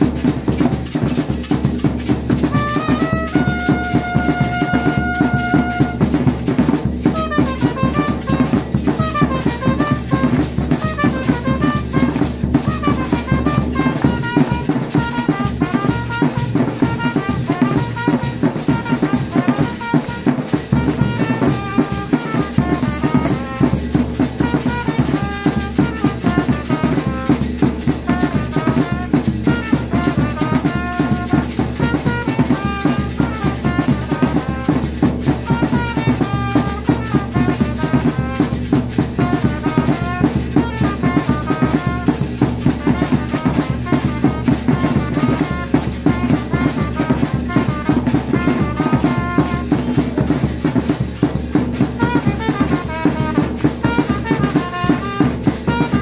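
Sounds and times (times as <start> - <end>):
bass drums and hand drum beating: 0.0 - 56.0
trumpets playing short phrases: 0.0 - 56.0.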